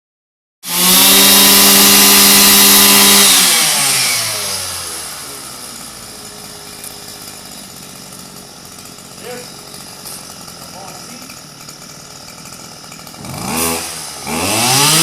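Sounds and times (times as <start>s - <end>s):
string trimmer engine: 0.6s - 15.0s.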